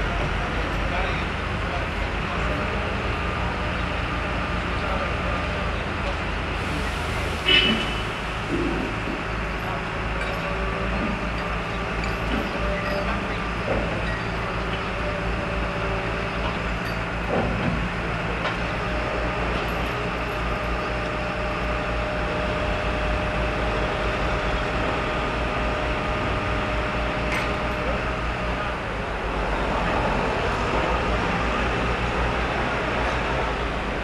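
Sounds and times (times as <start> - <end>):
rail crane engine drone: 0.0 - 34.0.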